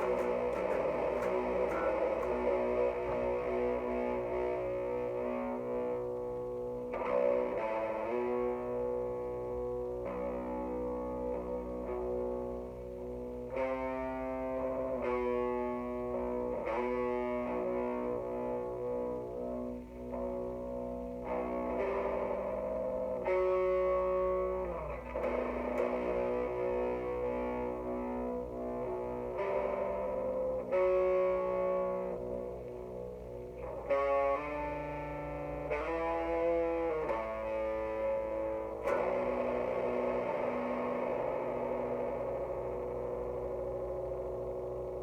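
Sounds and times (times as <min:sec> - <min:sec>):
distorted electric guitar chords: 0:00.0 - 0:45.0.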